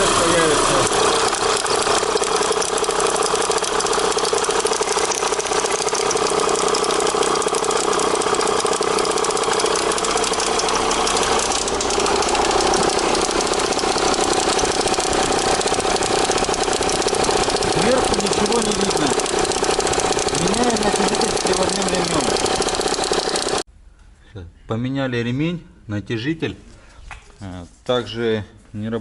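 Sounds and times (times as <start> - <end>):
car engine idling: 0.0 - 23.6
drive belt noise: 0.0 - 23.6.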